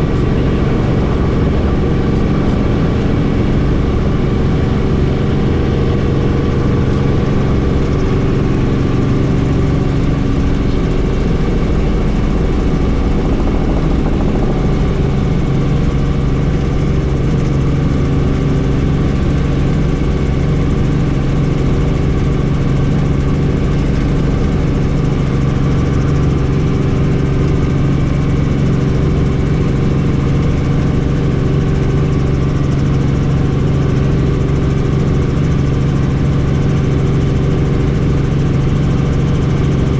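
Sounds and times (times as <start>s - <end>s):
helicopter rotor and turbine drone: 0.0s - 39.9s.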